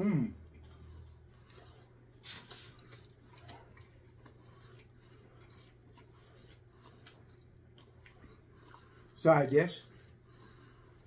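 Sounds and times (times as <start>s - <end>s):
quiet chewing: 0.4s - 11.0s.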